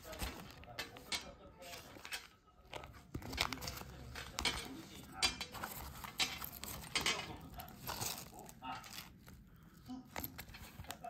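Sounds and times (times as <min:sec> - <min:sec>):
fabric case rustling: 0:00.0 - 0:11.0.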